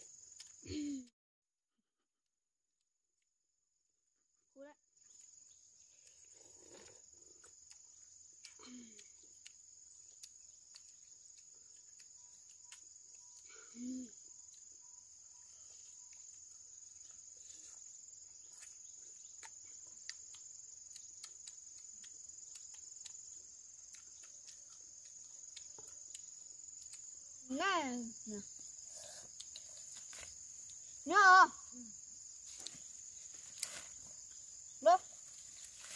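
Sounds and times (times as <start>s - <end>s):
insect chorus: 0.0s - 1.1s, 4.5s - 35.9s.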